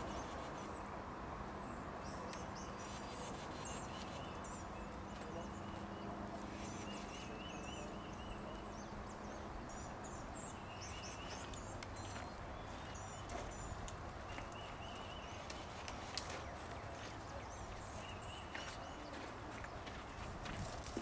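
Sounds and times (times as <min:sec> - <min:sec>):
outdoor background hiss: 0:00.0 - 0:21.0
songbirds chirping: 0:00.0 - 0:21.0.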